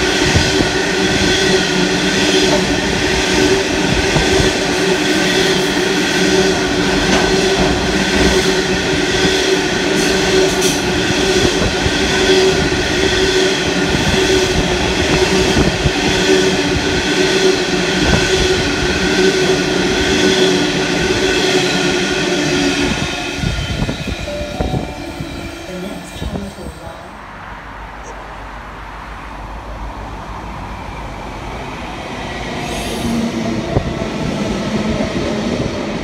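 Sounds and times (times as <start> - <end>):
freight train wheels rumbling: 0.0 - 27.4, 29.2 - 36.0.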